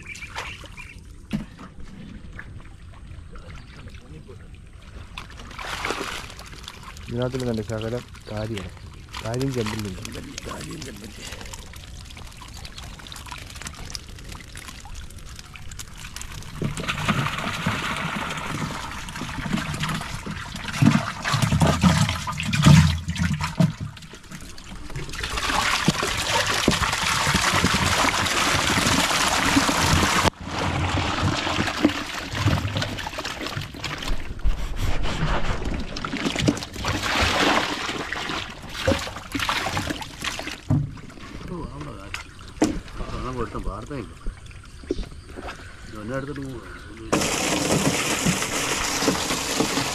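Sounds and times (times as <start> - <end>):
fish thrashing and splashing: 4.8 - 49.9
water pouring into a tub: 5.1 - 42.2, 46.0 - 49.9.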